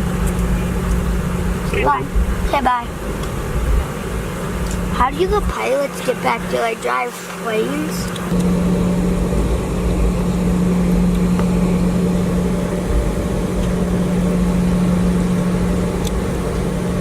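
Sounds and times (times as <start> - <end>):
airliner engines droning in cabin: 0.0 - 17.0.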